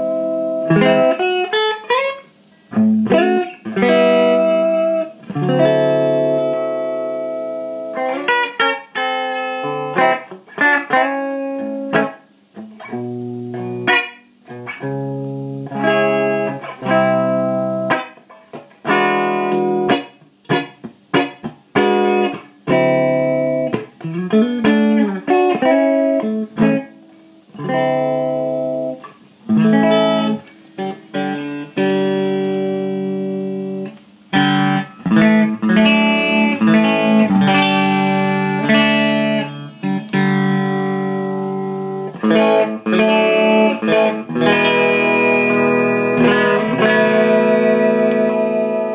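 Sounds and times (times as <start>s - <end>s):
electric guitar chords and notes: 0.0s - 48.9s.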